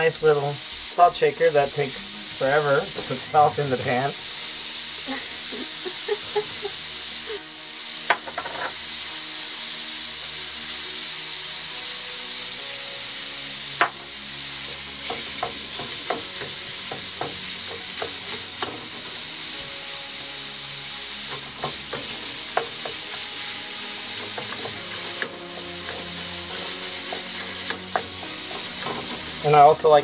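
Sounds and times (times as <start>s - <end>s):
meat sizzling in a pan: 0.0s - 30.0s.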